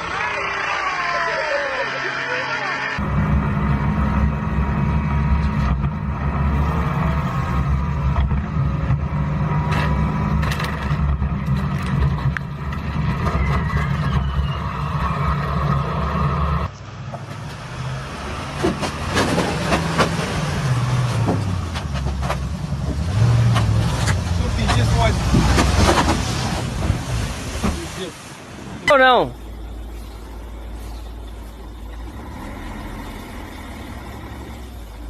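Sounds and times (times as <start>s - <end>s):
road noise: 0.0s - 35.0s
vehicle engine drone: 0.0s - 35.0s.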